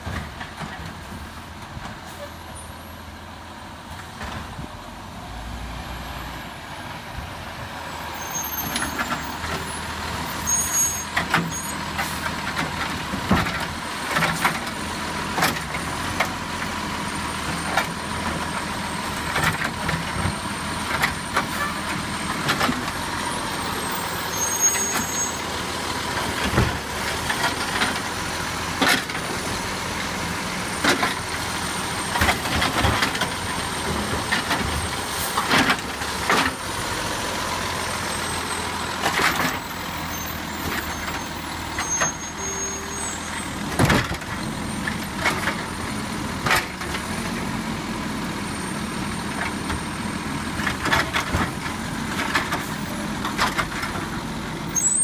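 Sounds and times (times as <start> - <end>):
garbage truck running: 0.0 - 55.0.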